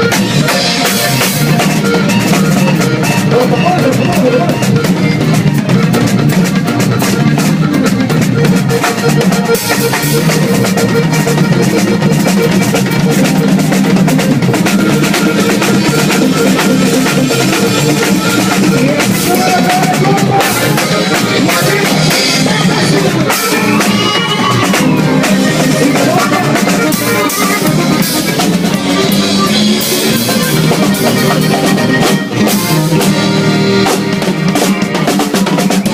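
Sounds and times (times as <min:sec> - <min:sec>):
loud band music: 0:00.0 - 0:35.9.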